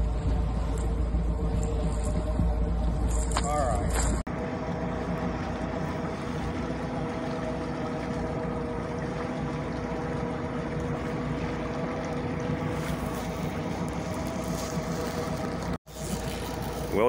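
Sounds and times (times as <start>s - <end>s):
boat motor humming: 0.0s - 17.0s
water washing in wake: 0.0s - 17.0s.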